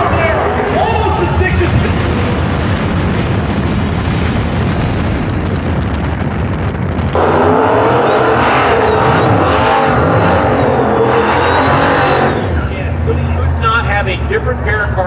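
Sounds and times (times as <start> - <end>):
drag car engines rumbling: 0.0 - 15.0
low engine rumble: 0.0 - 15.0
wind rush: 0.0 - 15.0.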